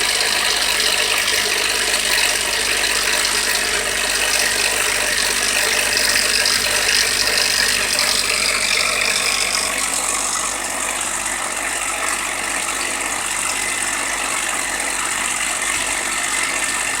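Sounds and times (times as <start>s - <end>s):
car engine idling: 0.0s - 16.5s.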